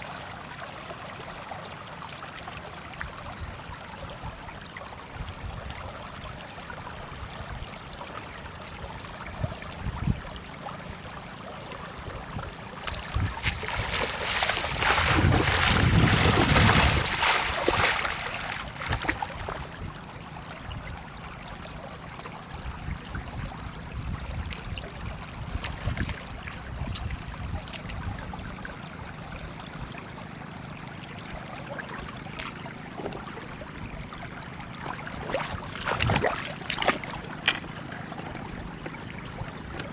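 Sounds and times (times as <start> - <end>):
water sloshing and trickling: 0.0 - 39.9.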